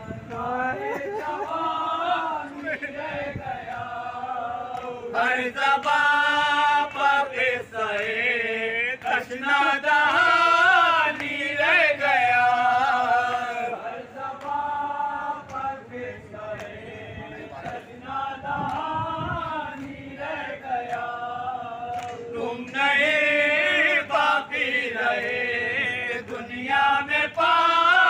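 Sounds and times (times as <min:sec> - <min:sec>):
voices joining in chant: 0:00.0 - 0:28.0.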